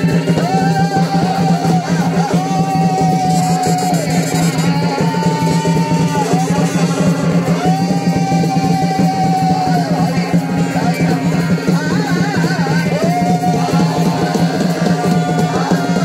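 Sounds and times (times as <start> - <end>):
fast drumming: 0.0 - 16.0.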